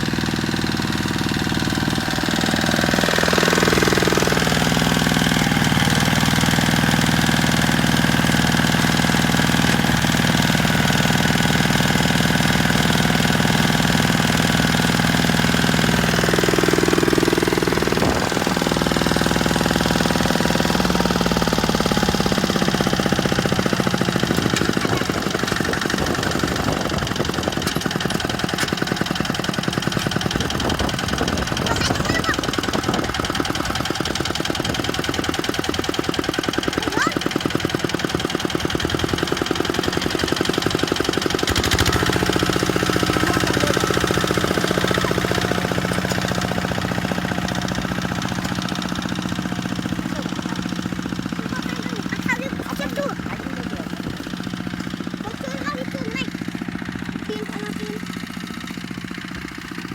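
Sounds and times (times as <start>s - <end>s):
tractor engine knocking: 0.0s - 59.9s.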